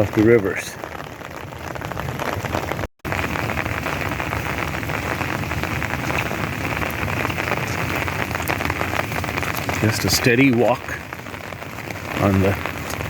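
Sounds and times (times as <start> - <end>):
rain falling on wet street: 0.0 - 13.0.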